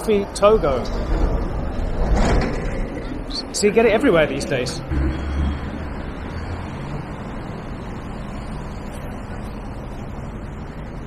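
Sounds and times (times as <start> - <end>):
rumble of passing cars: 0.0 - 11.0.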